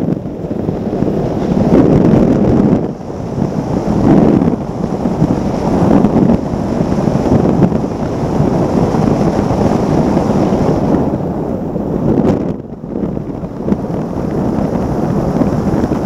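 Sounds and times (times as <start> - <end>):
outboard engine: 0.0 - 16.0
wind rushing over microphone: 0.0 - 16.0.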